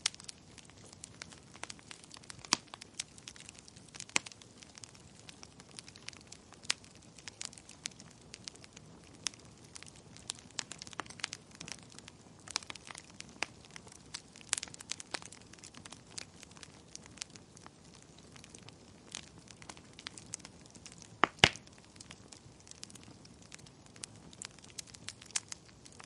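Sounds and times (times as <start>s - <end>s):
fire crackling in a fireplace: 0.0s - 26.0s.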